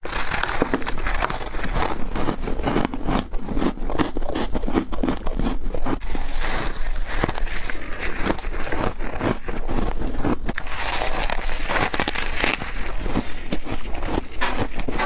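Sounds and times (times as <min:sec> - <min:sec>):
crisp crunches of biting frost: 0:00.0 - 0:15.0.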